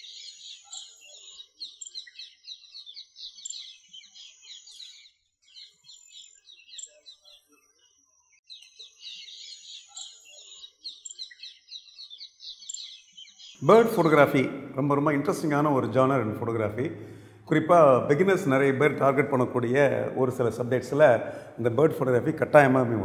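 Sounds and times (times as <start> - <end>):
birds chirping and twittering: 0.0 - 23.0.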